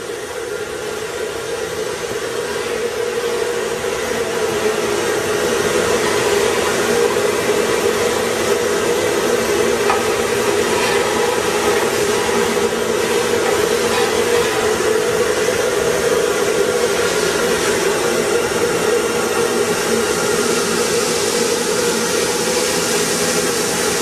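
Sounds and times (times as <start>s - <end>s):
industrial vacuum running: 0.0s - 24.0s.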